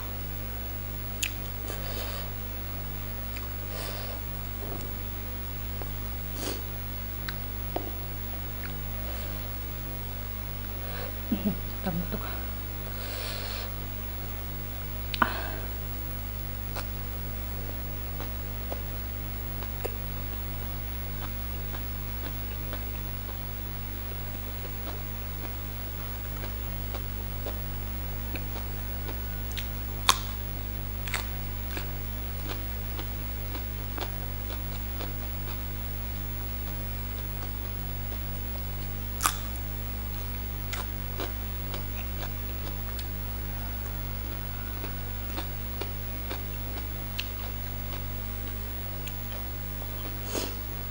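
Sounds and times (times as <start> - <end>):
steady low hum: 0.0 - 50.9
soft chewing: 1.1 - 13.8, 16.5 - 50.9.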